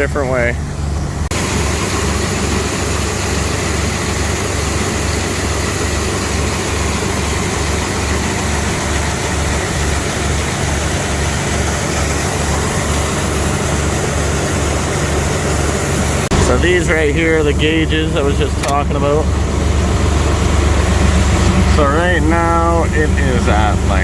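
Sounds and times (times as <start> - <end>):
diesel engine throbbing: 0.0 - 24.0.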